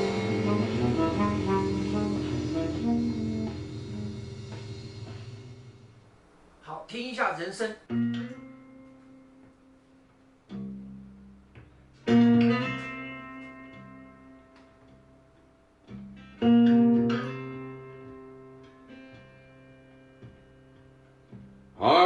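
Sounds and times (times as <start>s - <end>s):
blues guitar chords: 0.0s - 6.1s, 7.9s - 22.0s.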